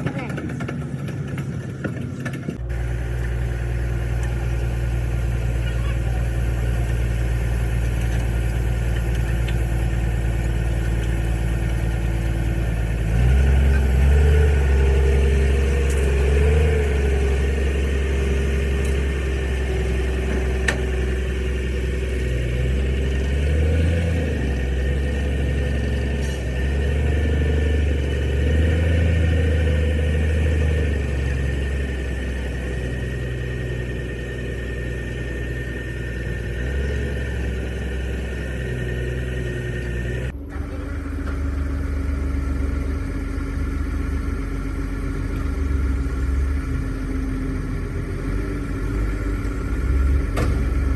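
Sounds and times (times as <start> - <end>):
truck engine running: 0.0 - 50.9.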